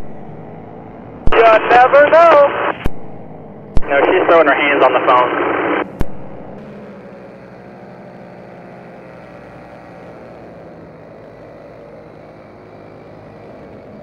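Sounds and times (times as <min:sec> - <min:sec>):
paramotor engine droning: 0:00.0 - 0:14.0.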